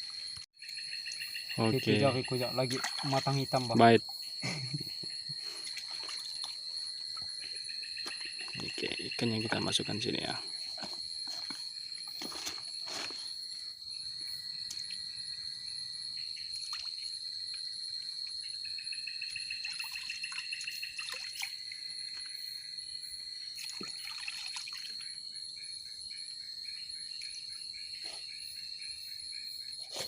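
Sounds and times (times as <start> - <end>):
crickets chirping: 0.0 - 30.0
lower insect trill: 0.0 - 30.0.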